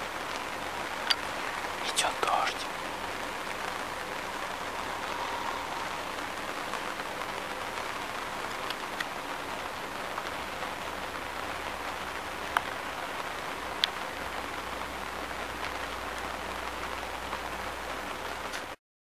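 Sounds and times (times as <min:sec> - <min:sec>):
rain on a tent roof: 0:00.0 - 0:18.8.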